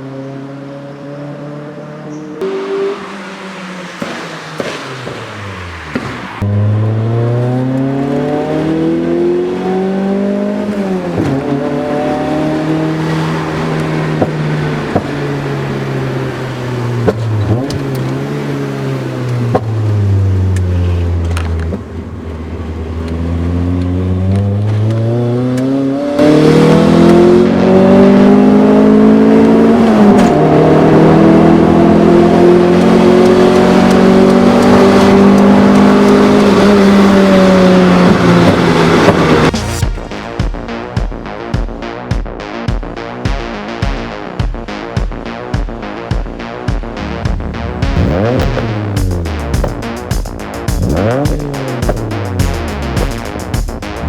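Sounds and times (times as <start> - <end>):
car engine accelerating: 0.0 - 42.5, 45.8 - 54.0.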